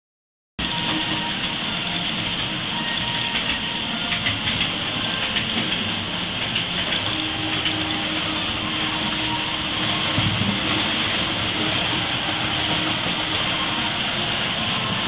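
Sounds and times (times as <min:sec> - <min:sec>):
model train whirring: 0:00.6 - 0:15.0
wheels clicking over rail joints: 0:00.6 - 0:15.0.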